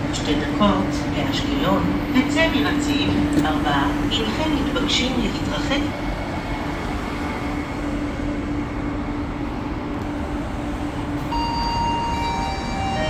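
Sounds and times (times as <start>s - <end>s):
train cars rumbling: 0.0s - 13.0s.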